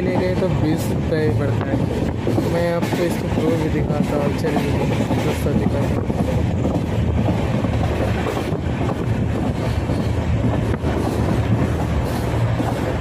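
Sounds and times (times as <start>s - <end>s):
train rumble from inside coach: 0.0s - 13.0s.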